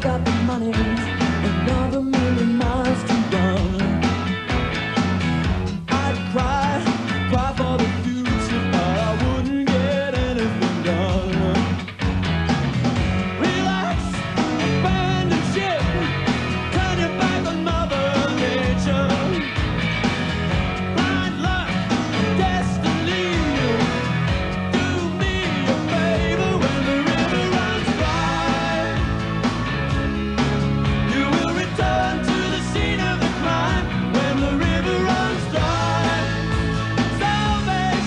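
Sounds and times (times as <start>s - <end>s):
rock music with singing: 0.0s - 38.0s.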